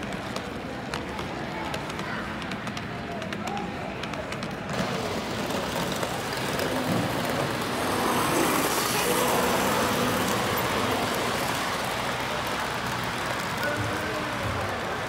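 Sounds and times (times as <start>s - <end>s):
model train wheels rumbling on rails: 0.0s - 15.0s.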